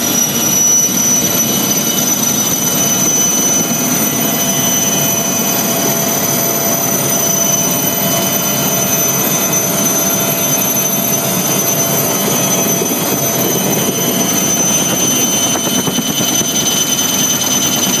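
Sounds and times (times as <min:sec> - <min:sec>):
helicopter engine and rotor noise: 0:00.0 - 0:18.0
high-pitched turbine whine: 0:00.0 - 0:18.0.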